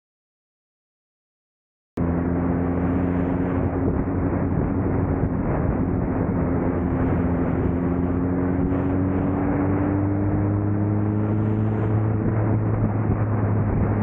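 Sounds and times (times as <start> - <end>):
motorcycle engine running: 2.0 - 14.0
rushing noise: 2.0 - 14.0.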